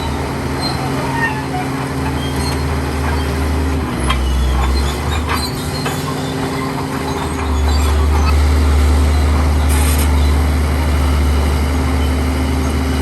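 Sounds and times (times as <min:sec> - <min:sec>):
diesel engine under load: 0:00.0 - 0:13.0
steel tracks clanking and squeaking: 0:00.0 - 0:13.0.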